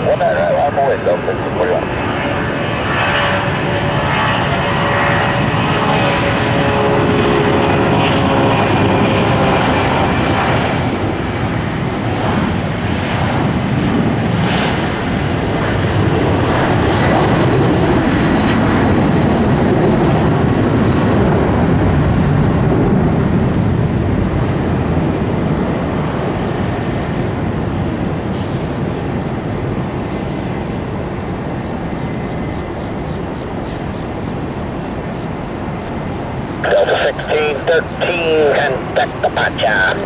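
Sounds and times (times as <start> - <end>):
jet engine whine: 0.0 - 40.0
jet engines roaring: 0.0 - 40.0.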